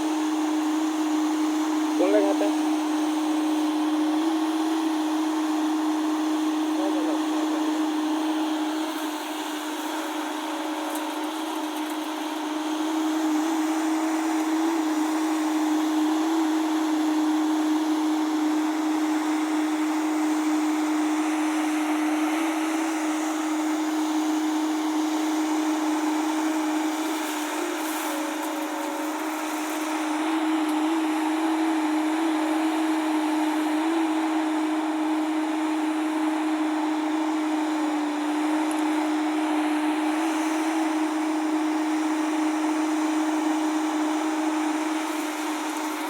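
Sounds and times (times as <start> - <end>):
diesel engine droning: 0.0 - 46.0.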